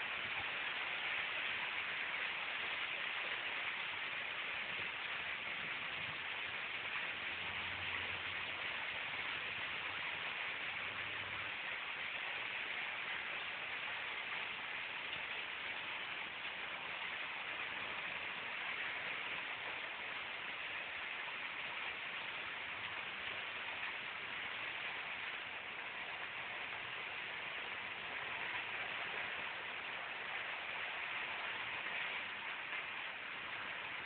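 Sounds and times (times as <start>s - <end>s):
torrential rain hissing: 0.0s - 34.0s.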